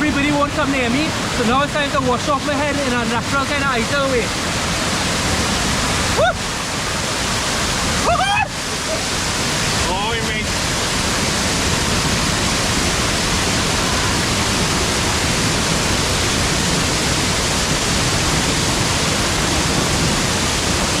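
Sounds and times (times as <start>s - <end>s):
waterfall pouring down: 0.0s - 21.0s.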